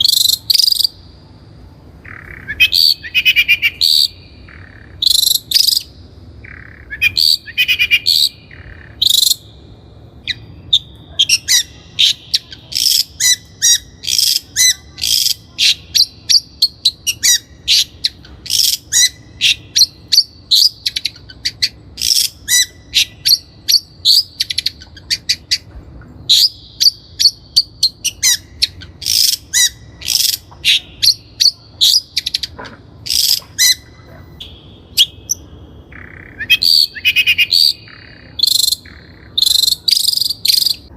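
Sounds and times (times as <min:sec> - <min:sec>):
bird chattering song: 0:00.0 - 0:01.2, 0:02.0 - 0:40.9.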